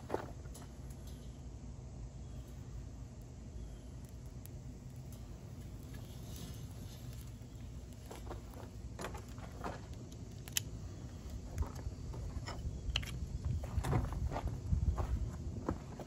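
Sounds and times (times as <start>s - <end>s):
fire crackling and popping: 0.0s - 15.6s
low fire rumble: 0.0s - 16.0s.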